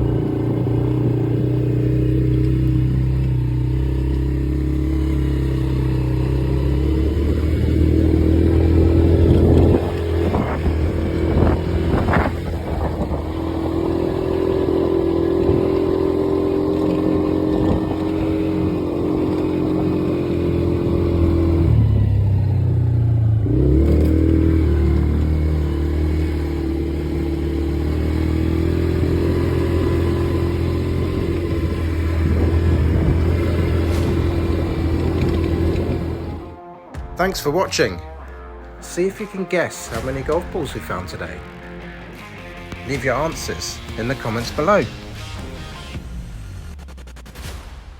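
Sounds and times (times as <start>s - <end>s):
quad bike engine running: 0.0s - 36.6s, 39.8s - 46.0s.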